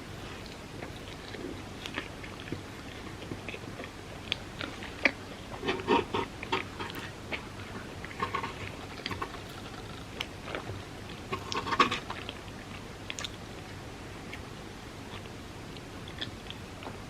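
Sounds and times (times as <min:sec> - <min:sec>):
close chewing and wet mouth sounds: 0:00.1 - 0:17.0.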